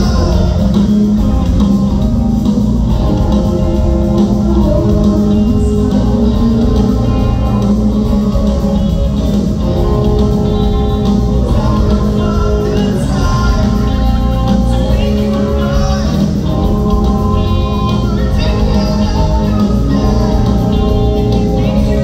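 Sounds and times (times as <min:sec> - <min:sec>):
person singing lead vocal: 0:00.0 - 0:01.7, 0:02.8 - 0:22.0
bass guitar: 0:00.0 - 0:22.0
drums: 0:00.0 - 0:22.0
electric guitar: 0:00.0 - 0:22.0.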